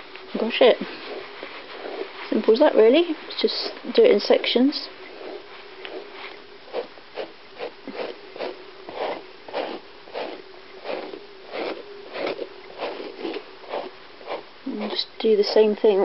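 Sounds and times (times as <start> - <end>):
faint steady hum: 0.0 - 16.0
brush strokes through dog fur: 0.4 - 4.4, 5.0 - 16.0.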